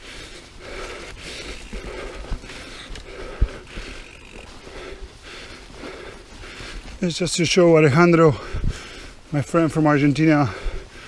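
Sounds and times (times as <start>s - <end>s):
bike tyre noise: 0.0s - 11.0s
rider breathing: 0.0s - 11.0s.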